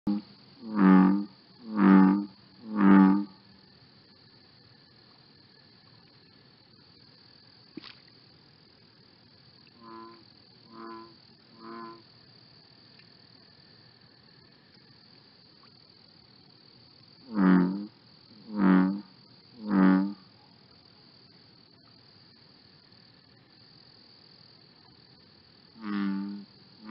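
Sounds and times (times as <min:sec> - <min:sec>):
steady high-pitched hiss: 0:00.1 - 0:26.9.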